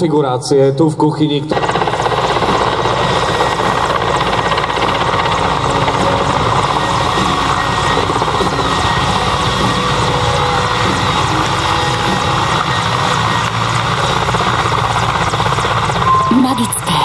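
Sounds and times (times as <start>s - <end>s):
helicopter rotor noise: 1.2s - 17.0s
thin high whine: 2.0s - 17.0s.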